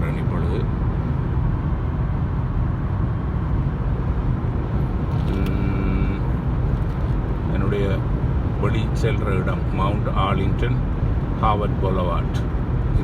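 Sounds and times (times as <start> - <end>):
car engine hum: 0.0 - 13.0
road and tyre noise: 0.0 - 13.0.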